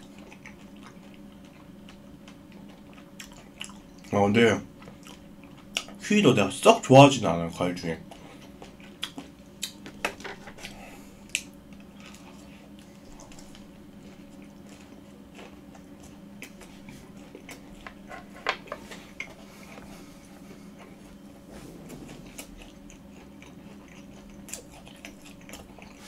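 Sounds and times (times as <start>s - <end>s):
chewing with wet smacks: 0.0s - 4.2s, 4.8s - 6.0s, 8.0s - 10.0s, 10.6s - 21.2s, 22.3s - 26.0s.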